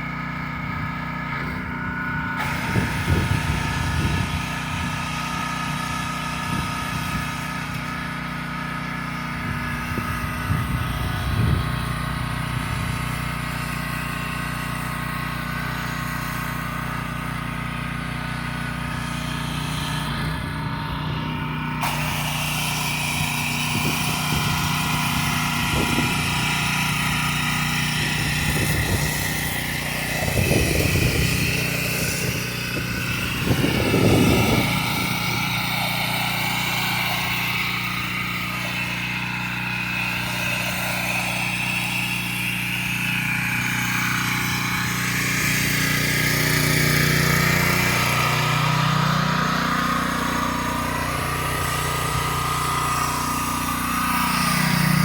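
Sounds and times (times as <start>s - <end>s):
petrol engine running: 0.0s - 55.0s
high-pressure water spraying: 0.9s - 55.0s.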